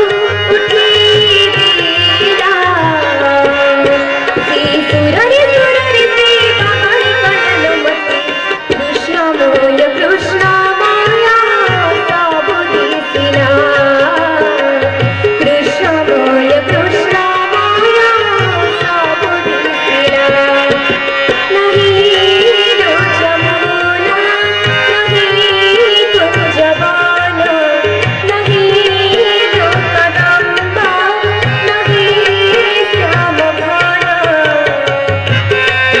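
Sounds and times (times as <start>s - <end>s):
tabla rhythm: 0.0s - 36.0s.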